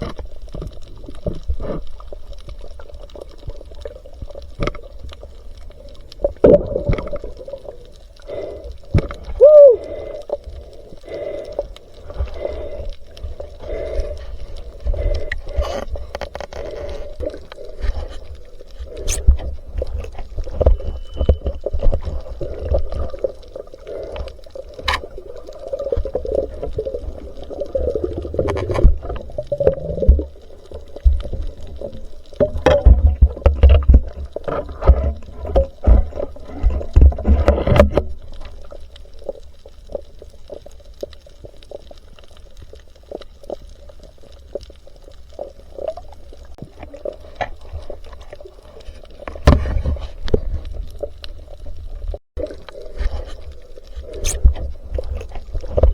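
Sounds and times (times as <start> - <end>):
water gurgling and sloshing: 0.0 - 55.9.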